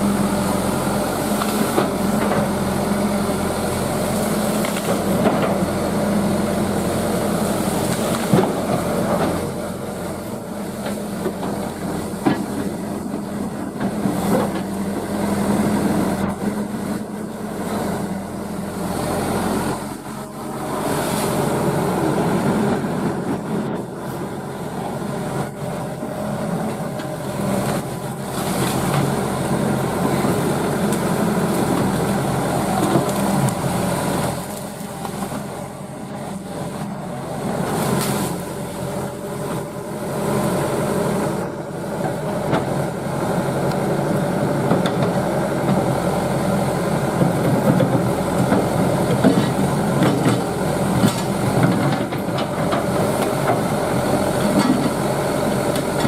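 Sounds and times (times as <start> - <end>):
excavator diesel engine whining: 0.0 - 56.0.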